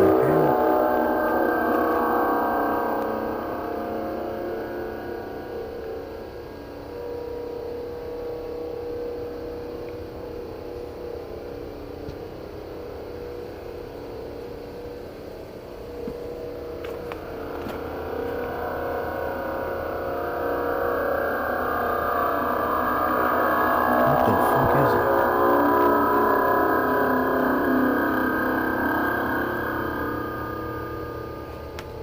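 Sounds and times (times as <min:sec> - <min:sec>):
droning hum of held tones: 0:00.0 - 0:32.0.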